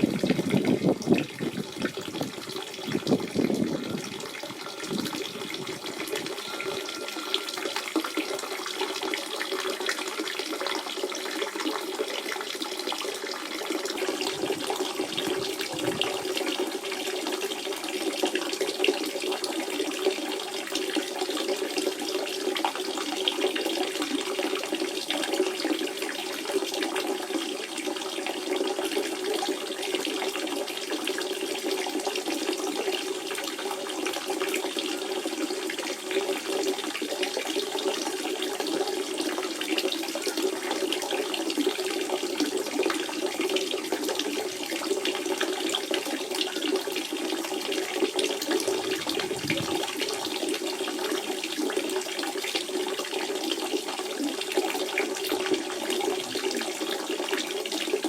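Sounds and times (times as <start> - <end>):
spring water running and trickling: 0.0 - 58.0
water gurgling: 0.0 - 58.0.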